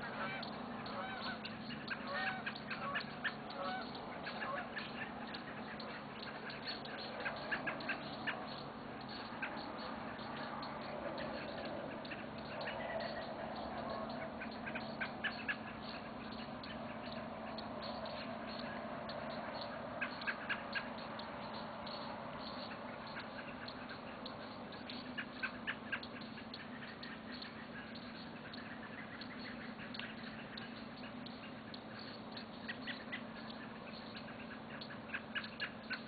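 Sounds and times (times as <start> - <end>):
geese honking: 0.0 - 36.0
songbirds chirping: 0.0 - 36.0.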